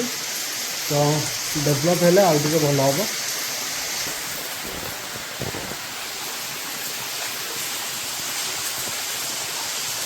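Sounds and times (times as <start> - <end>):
waterfall splashing: 0.0 - 10.0.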